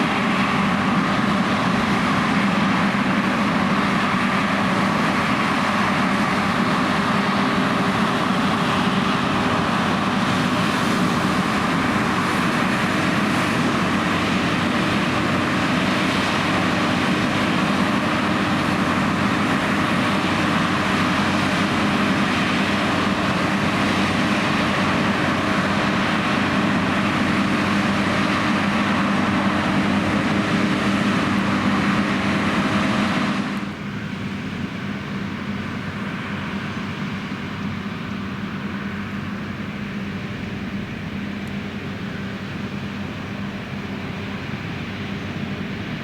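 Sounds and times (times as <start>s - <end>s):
combine harvester droning: 0.0s - 46.0s.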